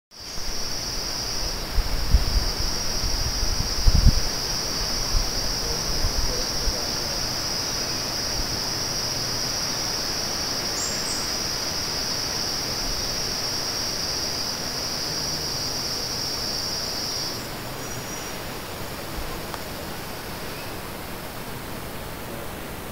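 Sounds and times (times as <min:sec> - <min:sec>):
insects droning: 0:00.1 - 0:22.9
faint hiss: 0:00.2 - 0:22.9.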